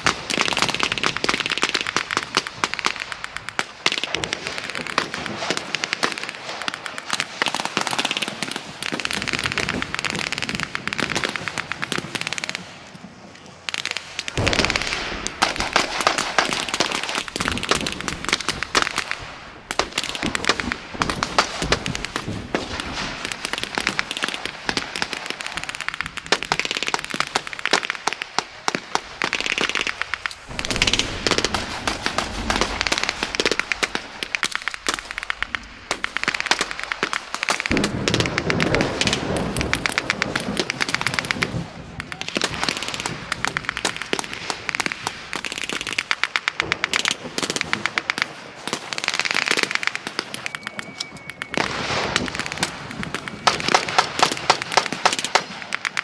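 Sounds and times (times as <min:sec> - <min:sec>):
rapid blank gunfire: 0:00.0 - 0:12.8, 0:13.8 - 0:56.0.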